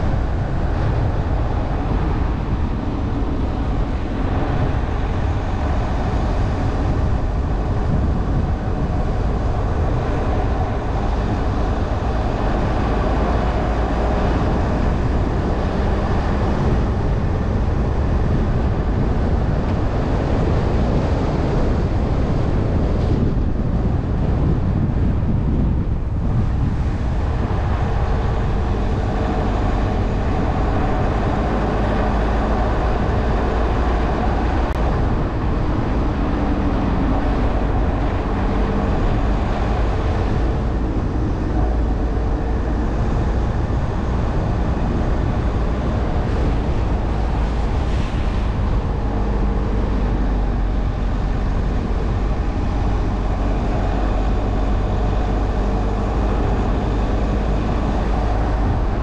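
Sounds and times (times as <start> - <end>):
faint engine hum: 0.0 - 59.0
tyre and road noise: 0.0 - 59.0.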